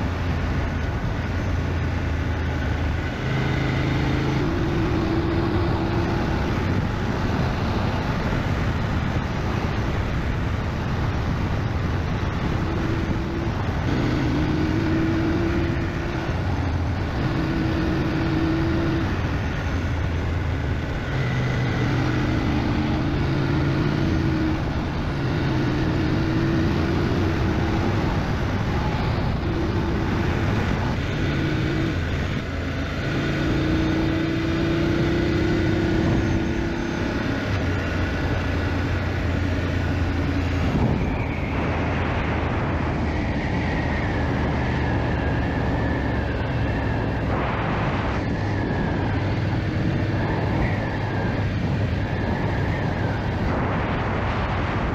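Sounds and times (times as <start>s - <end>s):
motorcycle engine running: 0.0s - 54.9s
wind rush and road noise: 0.0s - 54.9s.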